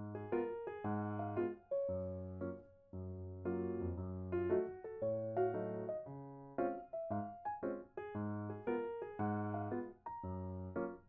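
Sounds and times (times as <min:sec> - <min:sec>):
calm piano background music: 0:00.0 - 0:11.0.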